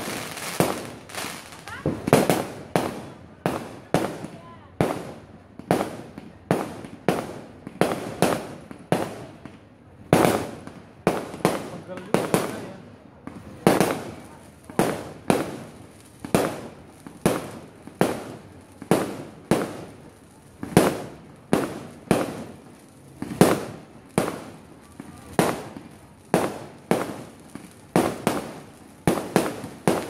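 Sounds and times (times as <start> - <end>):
fireworks bangs with echo: 0.0 - 30.0.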